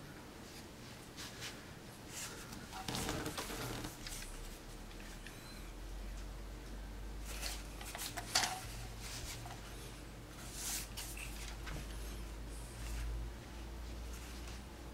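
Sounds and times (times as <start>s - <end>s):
low steady hum: 0.0s - 14.9s
rustles and scrapes of handling: 0.4s - 5.3s, 7.2s - 14.9s.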